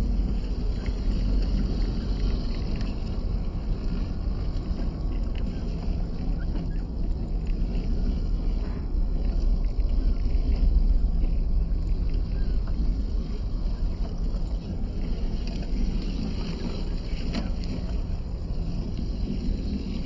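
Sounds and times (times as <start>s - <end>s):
small electric motor and gearbox: 0.0s - 20.0s
wind rumble on microphone: 0.0s - 20.0s.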